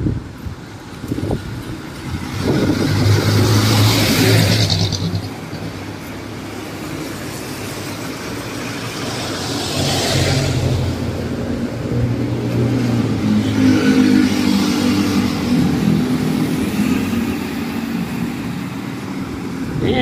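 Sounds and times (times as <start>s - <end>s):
vehicle engine hum: 0.0s - 20.0s
tyres hissing on wet road: 0.2s - 19.8s.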